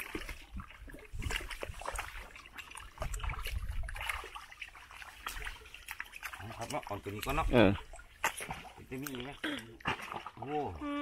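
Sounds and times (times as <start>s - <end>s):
feet squelching through mud: 0.0s - 10.7s
splashes in muddy water: 0.0s - 11.0s.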